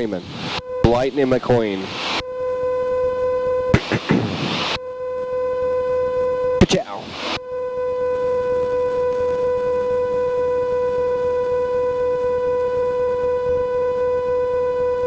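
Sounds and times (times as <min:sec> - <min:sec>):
steady tone with overtones: 0:00.0 - 0:15.0.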